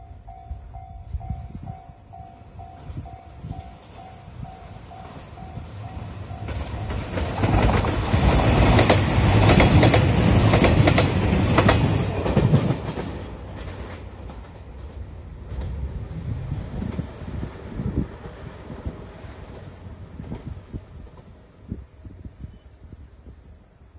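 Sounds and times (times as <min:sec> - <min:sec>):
diesel train passing: 0:00.0 - 0:22.1.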